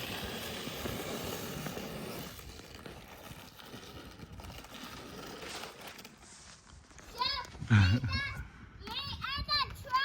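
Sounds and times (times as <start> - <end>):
sled sliding on snow: 0.0 - 8.3.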